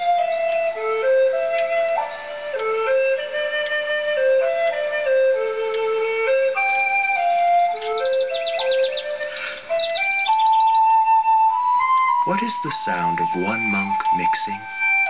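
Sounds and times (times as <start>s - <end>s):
slow flute melody: 0.0s - 15.0s.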